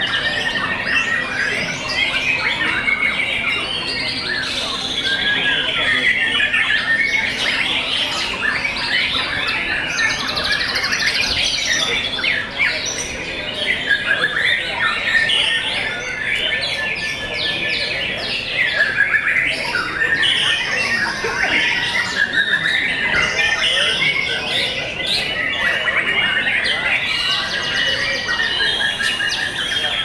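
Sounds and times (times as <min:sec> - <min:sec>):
birds singing: 0:00.0 - 0:30.0.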